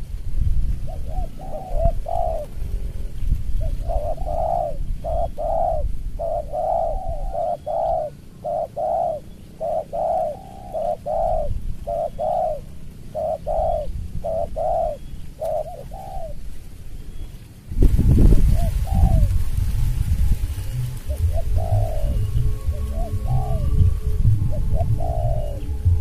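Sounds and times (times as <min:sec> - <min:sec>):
doves cooing: 0:00.8 - 0:26.0.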